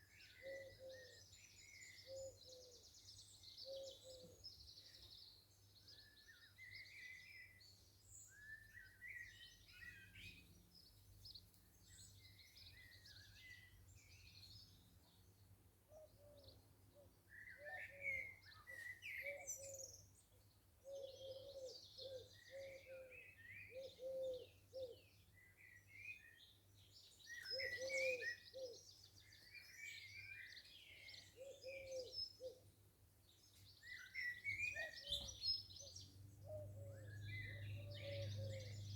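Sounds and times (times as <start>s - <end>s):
garden birds singing and chirping: 0.0s - 38.9s.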